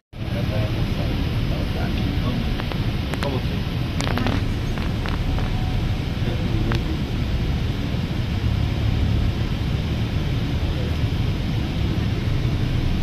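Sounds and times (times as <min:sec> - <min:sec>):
bus engine and road rumble: 0:00.1 - 0:13.0.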